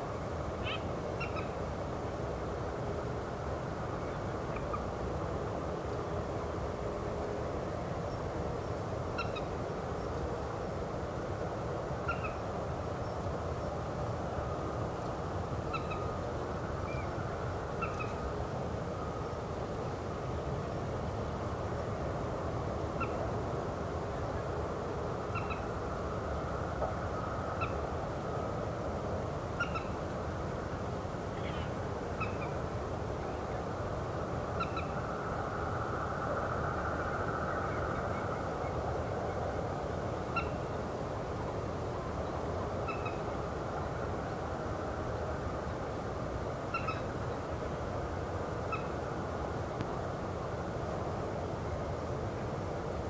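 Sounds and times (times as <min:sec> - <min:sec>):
low background rush: 0:00.0 - 0:53.0.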